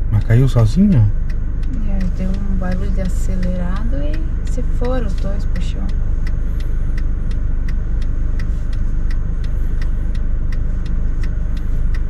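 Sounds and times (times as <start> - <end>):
car engine and road rumble: 0.0 - 12.0
indicator relay ticking: 0.0 - 12.0.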